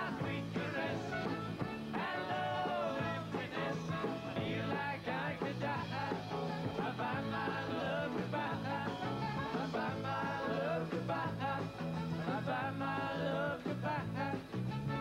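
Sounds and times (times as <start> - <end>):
men singing: 0.0 - 14.6
bass line: 0.0 - 15.0
guitar: 0.0 - 15.0.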